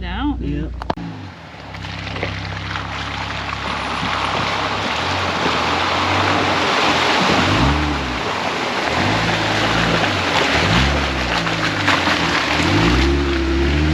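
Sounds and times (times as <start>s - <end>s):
truck engine revving: 0.0s - 13.9s
water splashing and churning: 1.0s - 13.9s.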